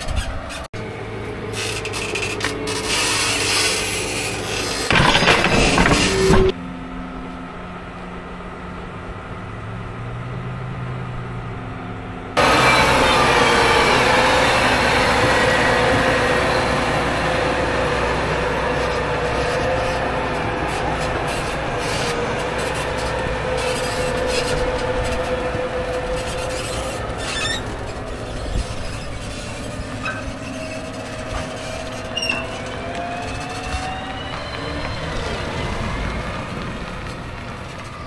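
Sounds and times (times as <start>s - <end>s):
implement rattling and clanking: 0.0s - 6.6s, 12.4s - 38.0s
tractor diesel engine whine: 0.0s - 38.0s.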